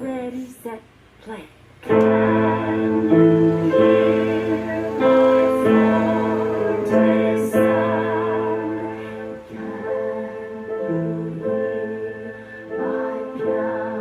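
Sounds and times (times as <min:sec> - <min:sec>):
sustained chords: 0:01.8 - 0:14.0
wavering melody line: 0:01.9 - 0:14.0.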